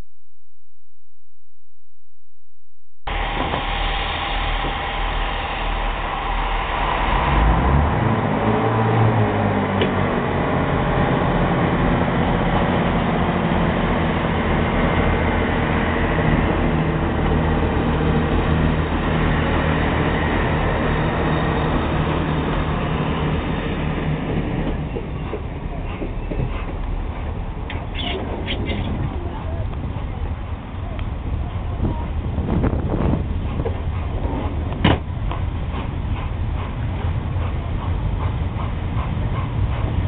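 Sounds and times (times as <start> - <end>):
steam locomotive exhaust: 3.1 - 40.0
train running noise: 3.1 - 40.0.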